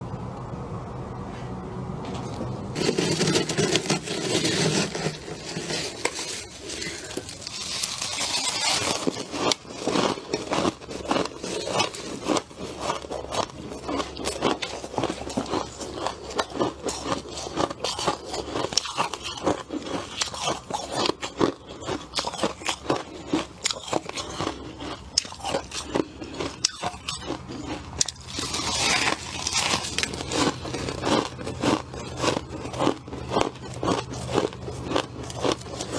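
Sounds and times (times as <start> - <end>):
person chewing crunchy frost: 2.8 - 35.9.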